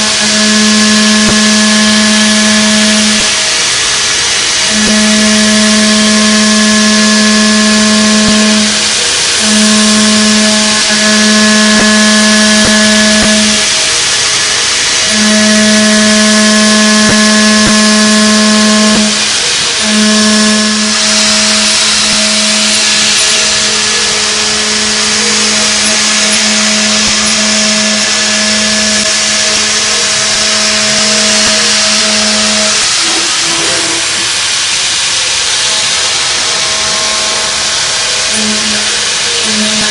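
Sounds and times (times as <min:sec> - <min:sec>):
milling machine cutting: 0:00.0 - 0:39.9.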